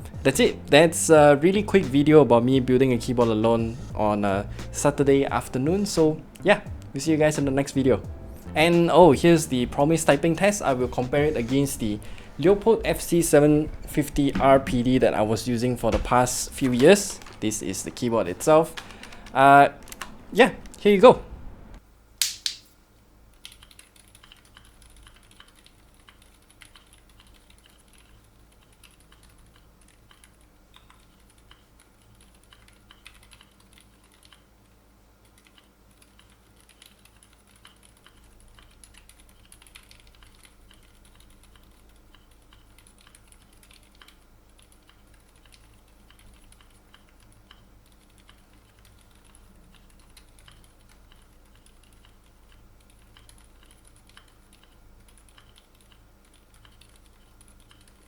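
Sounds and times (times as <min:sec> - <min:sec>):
soft keyboard typing: 0:08.8 - 0:21.8, 0:23.3 - 0:58.0.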